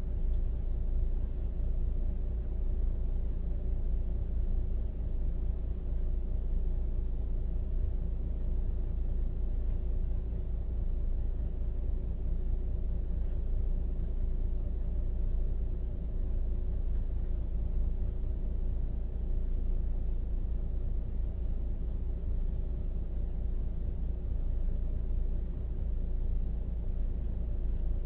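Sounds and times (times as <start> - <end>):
faint constant hum: 0.0 - 28.0
steady low rumble: 0.0 - 28.0.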